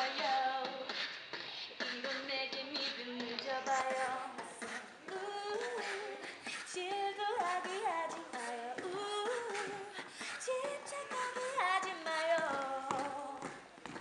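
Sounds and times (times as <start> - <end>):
women singing pop song: 0.0 - 14.0.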